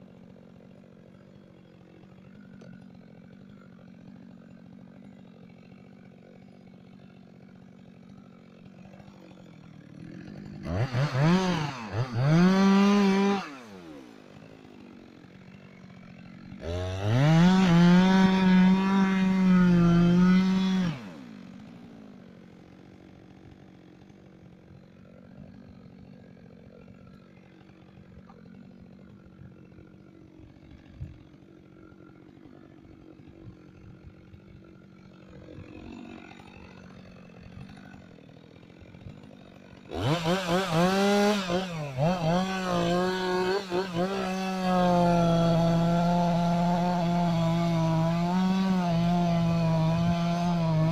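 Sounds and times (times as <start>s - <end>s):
chainsaw revving: 0.0s - 50.9s.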